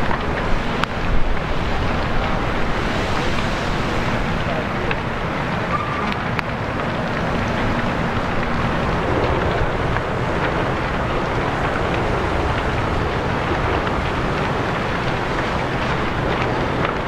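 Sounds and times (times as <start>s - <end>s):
faint crackles: 0.0s - 17.0s
wind buffeting microphone: 0.0s - 17.0s.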